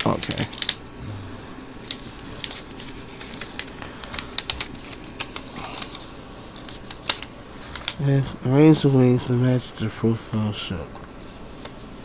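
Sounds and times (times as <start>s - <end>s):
paper being folded and creased: 0.0s - 0.8s, 1.7s - 12.0s.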